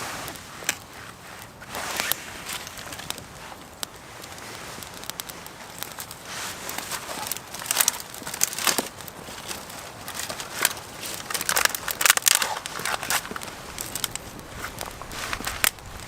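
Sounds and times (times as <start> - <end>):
dry leaves and twigs crunching: 0.4 - 16.0.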